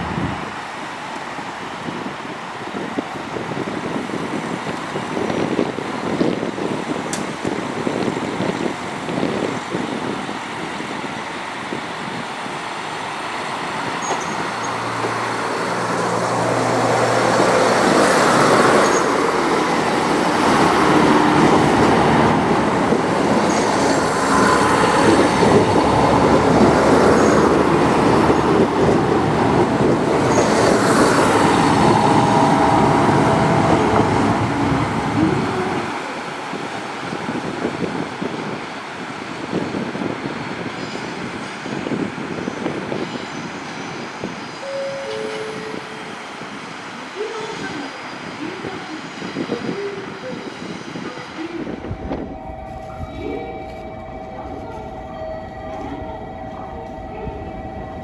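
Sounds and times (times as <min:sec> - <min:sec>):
diesel train passing: 0:00.0 - 0:58.0.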